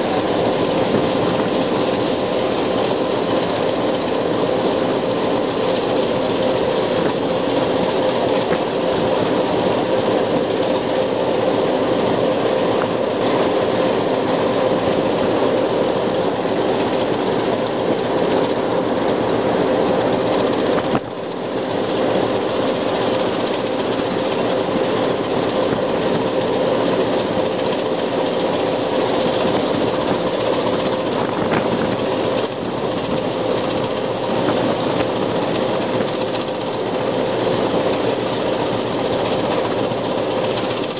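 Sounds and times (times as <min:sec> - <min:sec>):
diesel locomotive engine drone: 0:00.0 - 0:40.9
wheels on rail: 0:00.0 - 0:40.9.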